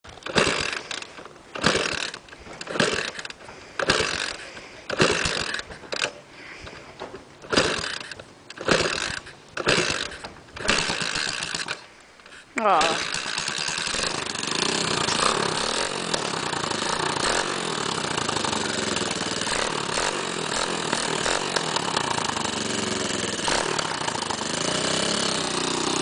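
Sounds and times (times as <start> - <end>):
engine starter cranking: 0.1 - 6.2, 7.4 - 26.0.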